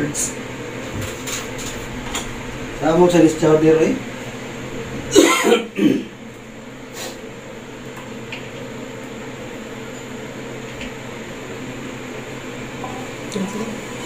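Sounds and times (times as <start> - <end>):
gas burner humming: 0.0 - 14.0.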